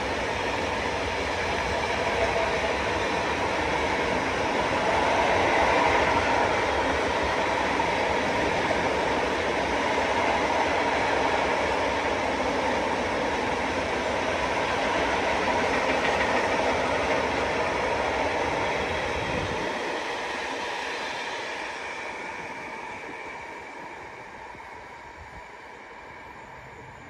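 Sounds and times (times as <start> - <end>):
train passing: 0.0 - 27.0.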